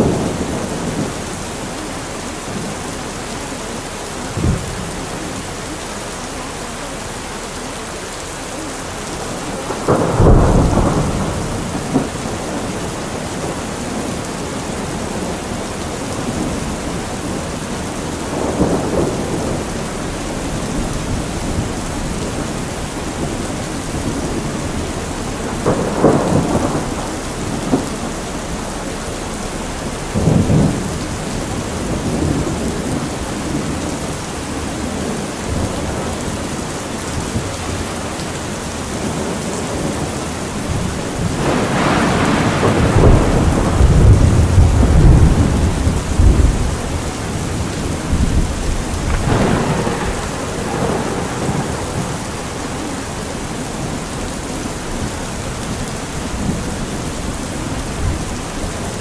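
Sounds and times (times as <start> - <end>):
steady rain: 0.0 - 59.0
thunder rolling: 9.2 - 59.0.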